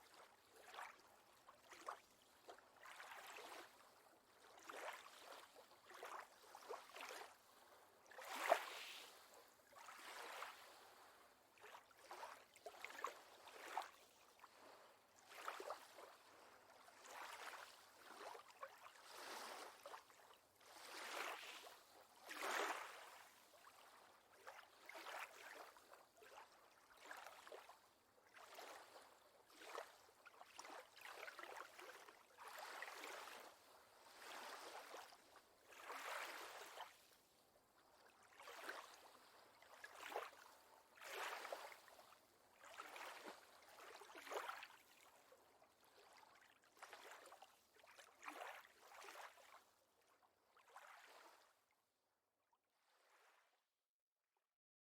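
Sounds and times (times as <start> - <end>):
water lapping and splashing: 0.1 - 9.1, 9.7 - 37.1, 37.8 - 49.6, 50.5 - 51.5.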